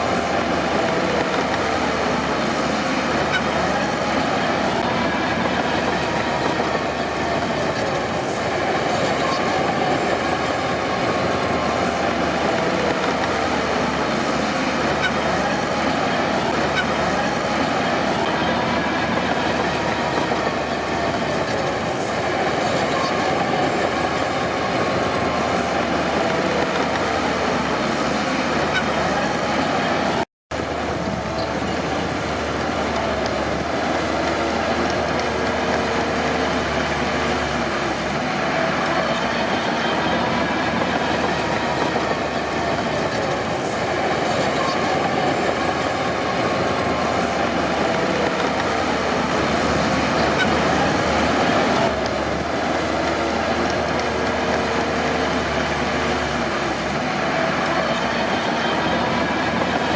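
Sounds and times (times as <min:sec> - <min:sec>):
diesel engine: 0:00.0 - 0:59.9
steel tracks clanking and squealing: 0:00.0 - 0:59.9.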